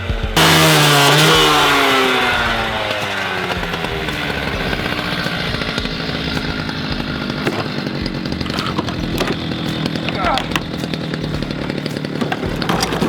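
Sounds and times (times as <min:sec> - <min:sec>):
engine-driven saw cutting steel: 0:00.0 - 0:13.0
metal crackling and scraping: 0:00.0 - 0:13.0.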